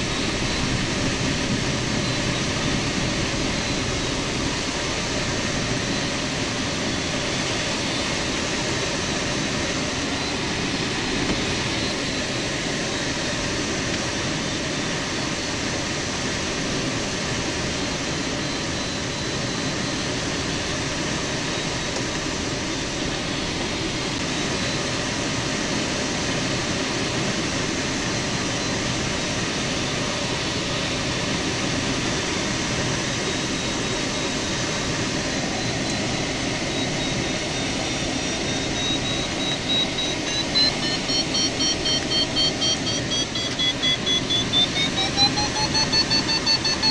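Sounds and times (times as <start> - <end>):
plane engine running: 0.0 - 46.9.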